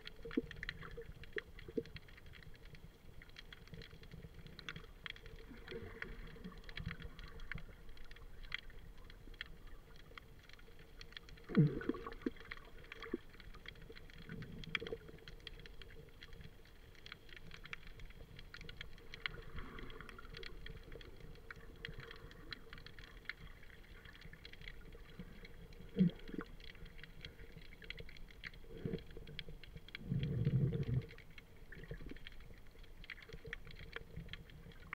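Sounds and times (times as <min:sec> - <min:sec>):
underwater crackling and clicking: 0:00.0 - 0:34.9
water surging: 0:00.0 - 0:34.9.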